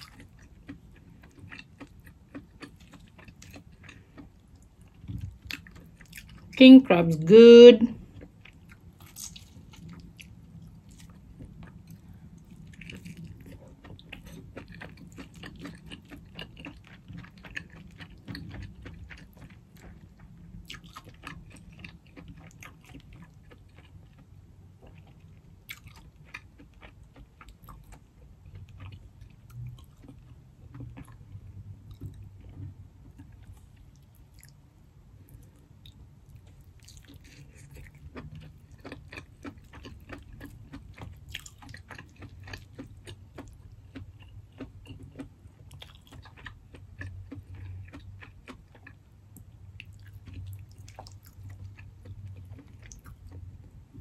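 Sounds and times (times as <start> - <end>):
person chewing: 0.0 - 6.6, 8.0 - 34.6, 35.3 - 54.0.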